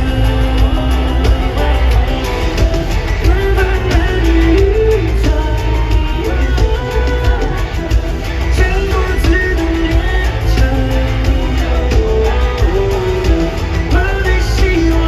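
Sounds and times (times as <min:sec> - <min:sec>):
pop-rock band playing: 0:00.0 - 0:15.0.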